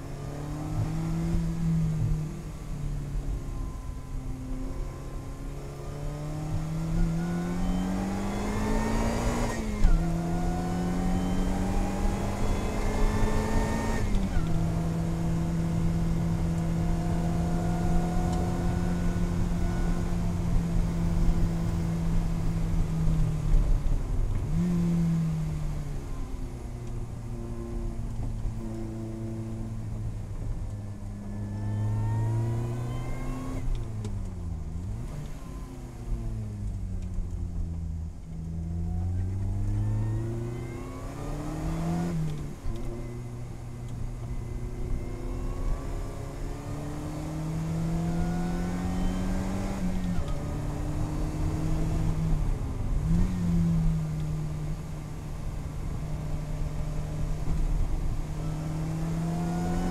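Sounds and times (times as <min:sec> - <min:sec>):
car engine revving through gears: 0:00.0 - 0:30.7, 0:31.3 - 0:59.9.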